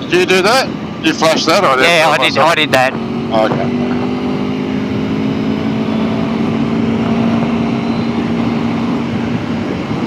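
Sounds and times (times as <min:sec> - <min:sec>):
motorcycle engine cruising: 0:00.0 - 0:10.0
wind and road rush: 0:00.0 - 0:10.0.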